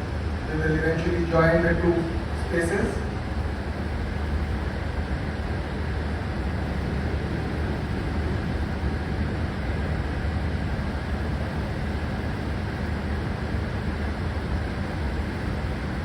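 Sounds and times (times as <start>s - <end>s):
low room rumble with hiss: 0.0s - 16.0s.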